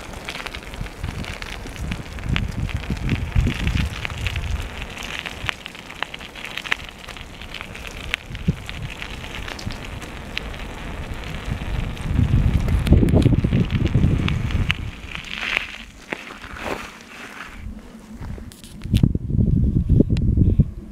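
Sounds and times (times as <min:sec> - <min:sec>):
crackling clicks: 0:00.0 - 0:19.1
wind buffeting microphone: 0:00.0 - 0:20.9.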